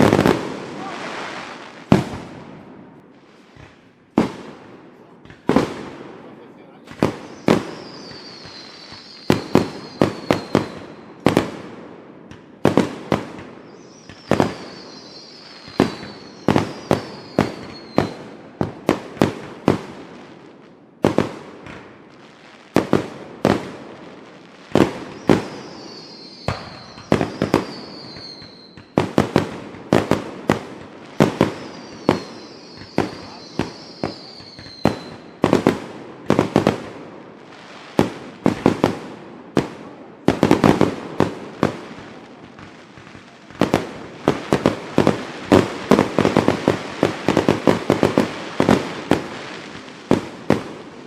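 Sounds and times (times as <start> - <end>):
fireworks bangs: 0.0 - 51.0.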